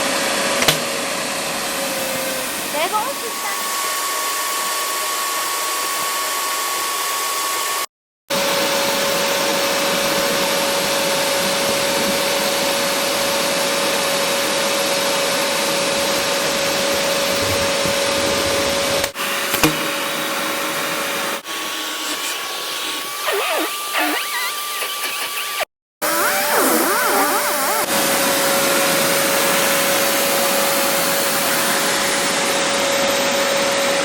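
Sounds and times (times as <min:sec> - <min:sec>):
vacuum cleaner motor whining: 0:00.0 - 0:07.8, 0:08.4 - 0:34.0.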